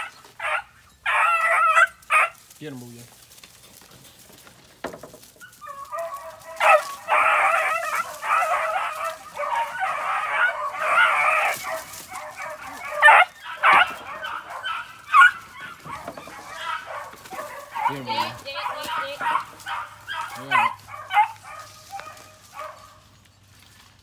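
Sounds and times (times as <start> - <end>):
puppies yelping and whining: 0.0 - 2.4, 5.3 - 23.0.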